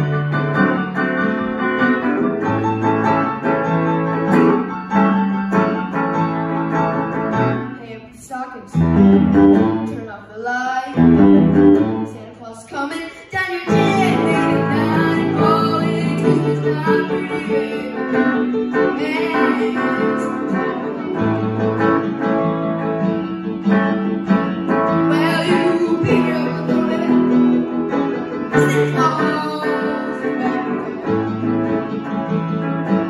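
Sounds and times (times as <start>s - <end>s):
strummed guitar chords: 0.0s - 7.8s, 8.8s - 10.0s, 11.0s - 12.2s, 13.3s - 33.0s.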